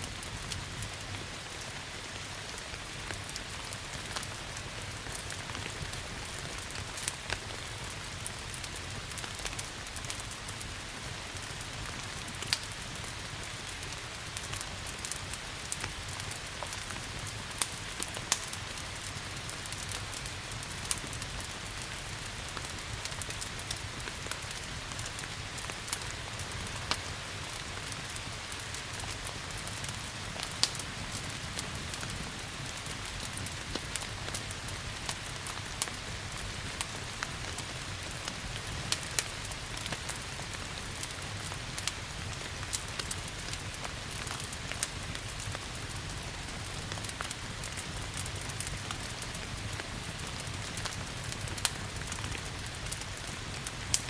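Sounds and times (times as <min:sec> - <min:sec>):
steady rain hiss: 0:00.0 - 0:54.0
wood fire crackling and popping: 0:00.0 - 0:54.0.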